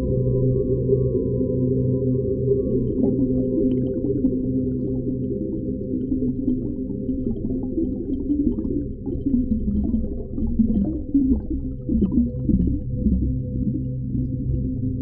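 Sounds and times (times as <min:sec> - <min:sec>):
underwater low rumble: 0:00.0 - 0:15.0
wavering low tones: 0:00.0 - 0:15.0
underwater gurgling: 0:02.4 - 0:15.0.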